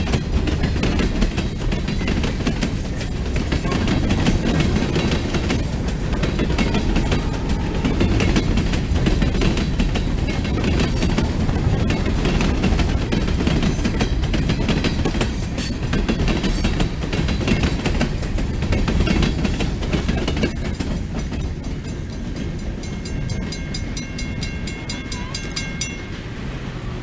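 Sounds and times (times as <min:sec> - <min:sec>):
train wheels clattering: 0:00.0 - 0:26.7
crossing bell ringing: 0:01.5 - 0:16.3, 0:17.5 - 0:26.8.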